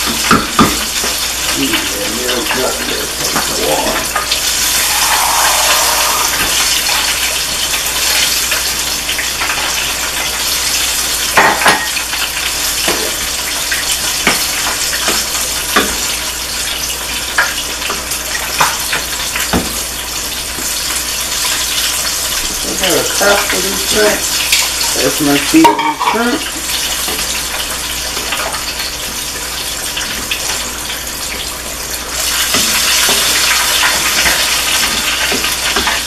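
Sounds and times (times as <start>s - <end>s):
food sizzling in a pot: 0.0s - 36.0s.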